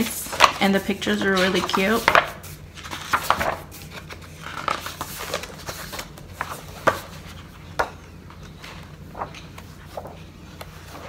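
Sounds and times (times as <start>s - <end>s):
book pages being turned: 0.0s - 11.0s.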